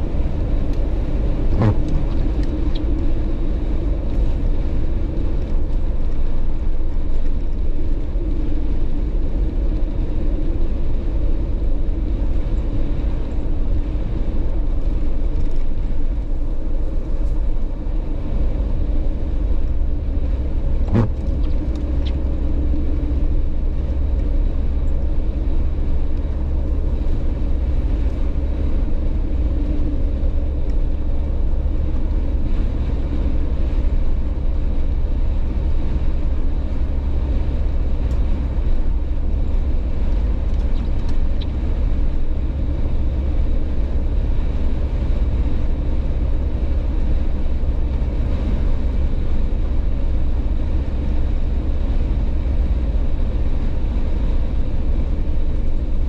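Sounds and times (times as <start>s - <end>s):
car driving at highway speed: 0.0s - 56.0s.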